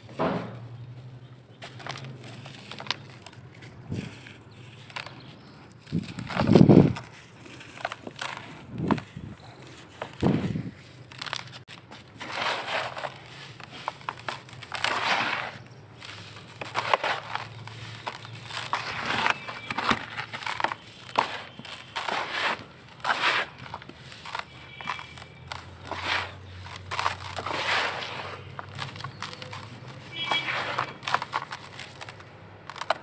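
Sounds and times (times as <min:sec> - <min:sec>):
charcoal crunching and crumbling: 0:00.0 - 0:33.0.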